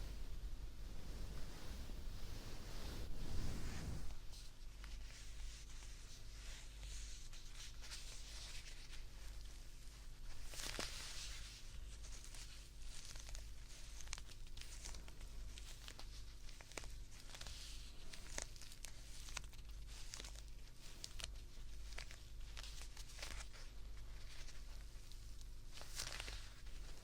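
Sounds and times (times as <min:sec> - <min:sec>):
teddy bear rustling and crinkling: 0:00.8 - 0:27.0.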